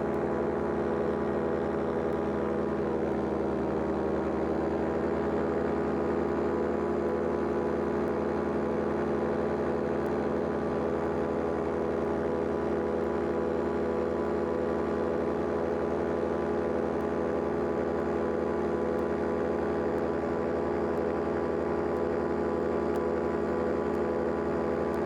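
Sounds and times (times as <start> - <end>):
paraglider engine and propeller drone: 0.0 - 25.0.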